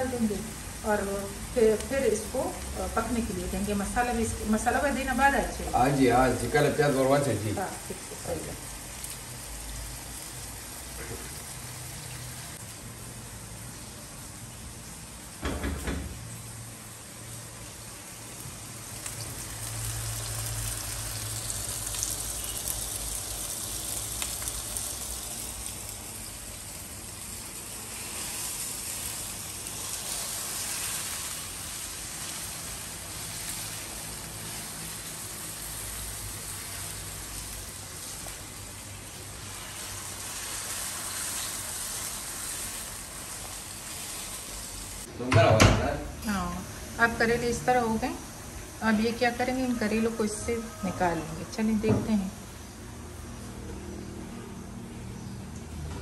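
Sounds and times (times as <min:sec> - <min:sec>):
vegetables sizzling in oil: 0:00.0 - 0:55.9.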